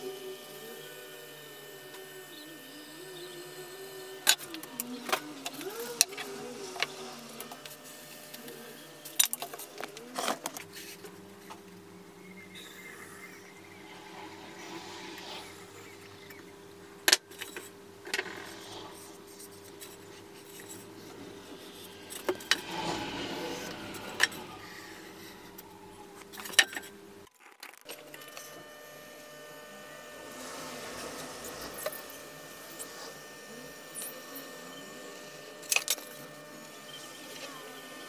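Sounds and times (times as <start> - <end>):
steady hum: 0.0 - 27.3, 27.9 - 38.0.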